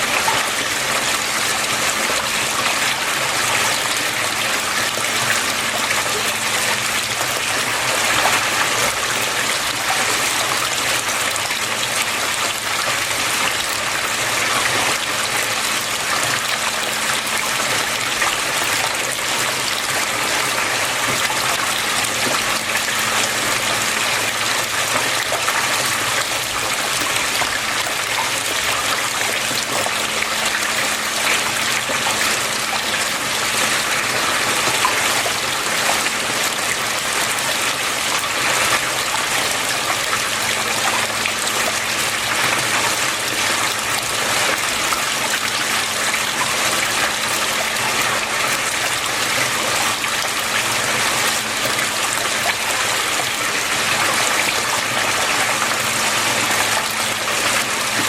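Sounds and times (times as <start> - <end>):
water flowing: 0.0 - 58.0.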